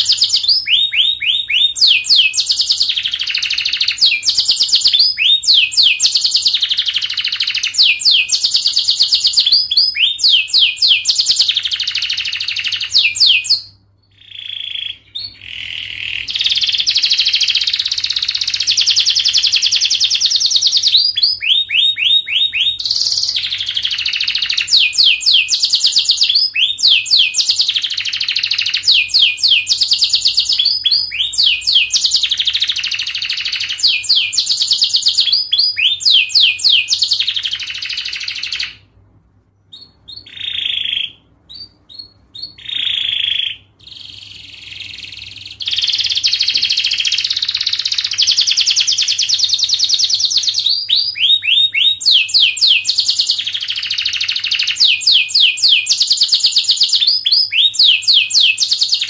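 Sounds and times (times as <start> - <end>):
canary singing trills: 0.0 - 38.9, 39.6 - 59.0.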